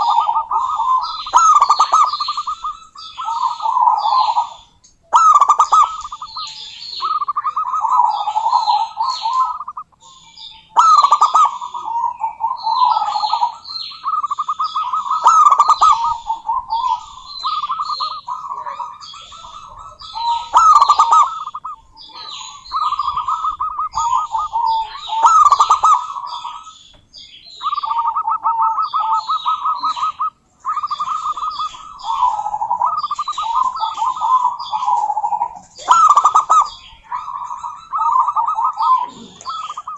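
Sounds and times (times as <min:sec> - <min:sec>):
dove cooing: 0:00.0 - 0:39.9
high chirping notes: 0:00.0 - 0:39.9.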